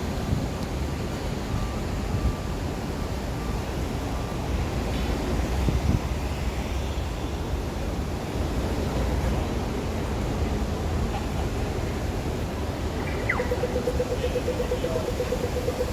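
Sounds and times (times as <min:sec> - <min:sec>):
traffic rumble: 0:00.0 - 0:15.9.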